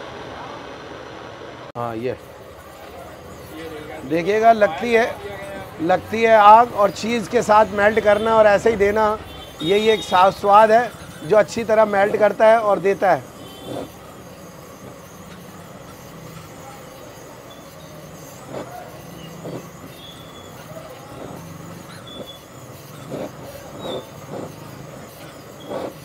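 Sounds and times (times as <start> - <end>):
butane torch hissing: 1.8 - 26.0.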